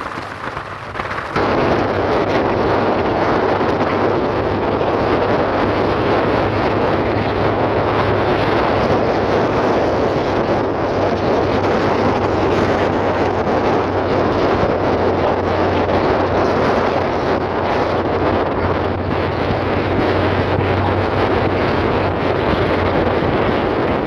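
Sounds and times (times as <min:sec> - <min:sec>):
car engine running: 0:00.0 - 0:24.0
wind and road noise: 0:00.0 - 0:24.0.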